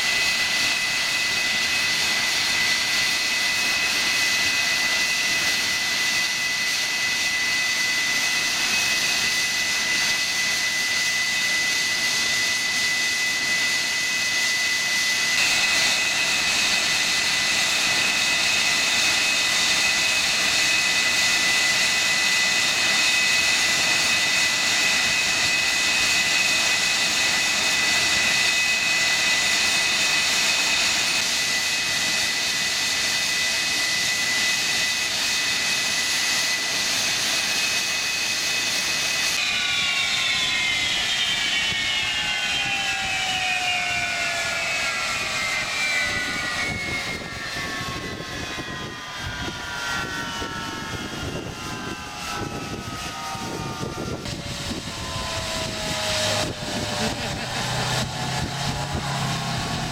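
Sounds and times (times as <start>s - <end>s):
jet engine whine and hiss: 0.0s - 59.9s.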